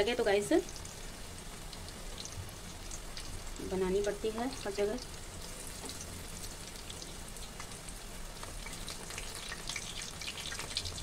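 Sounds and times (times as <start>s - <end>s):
deep-frying sizzle with crackles: 0.0s - 11.0s.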